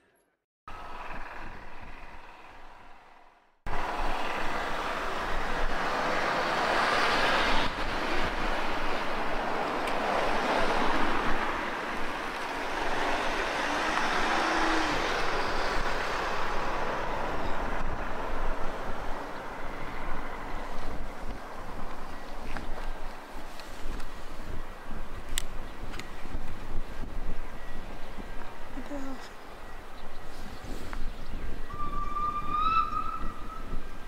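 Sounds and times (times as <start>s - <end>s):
wind rushing on microphone: 3.7s - 34.0s.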